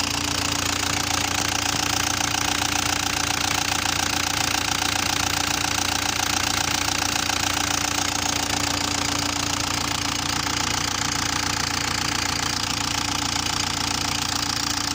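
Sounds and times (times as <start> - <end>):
diesel engine knocking: 0.0 - 14.9.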